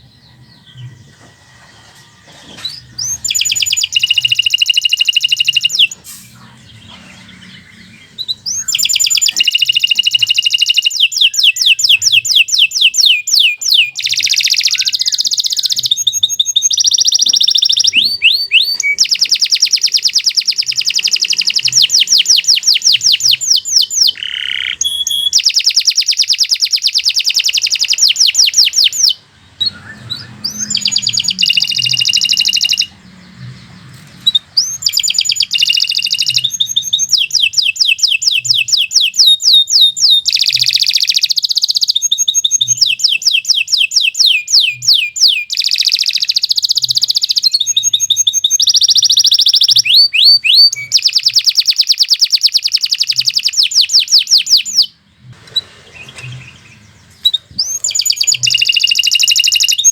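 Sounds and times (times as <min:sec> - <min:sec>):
canary trilling: 0:00.0 - 0:59.9.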